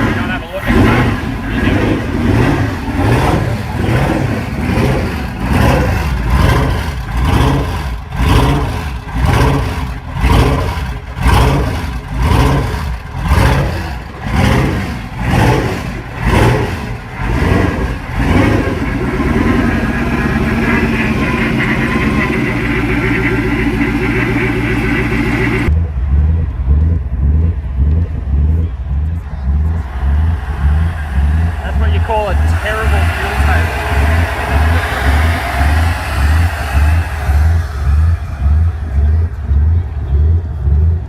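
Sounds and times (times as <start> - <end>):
engine revving: 0.0 - 41.0.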